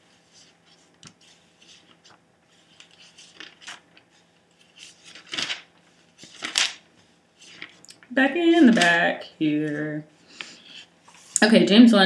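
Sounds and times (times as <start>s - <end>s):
pages turning: 0.1s - 11.4s.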